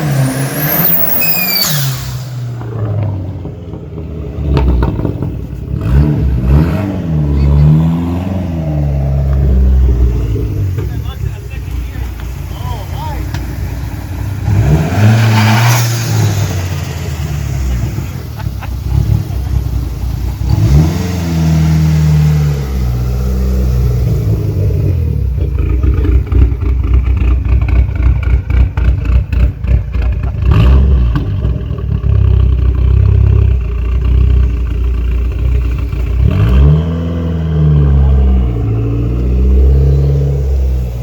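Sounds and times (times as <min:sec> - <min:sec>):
car engine revving hard: 0:00.0 - 0:03.2, 0:04.4 - 0:11.3, 0:14.1 - 0:32.2, 0:35.7 - 0:41.0.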